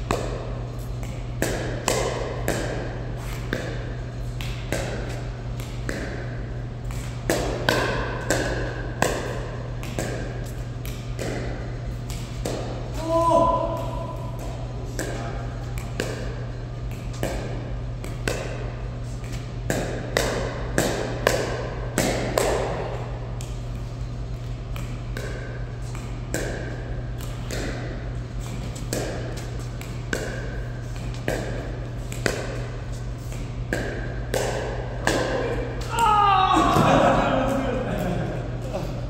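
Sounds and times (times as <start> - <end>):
paddles hitting plastic ball: 0.0 - 37.0.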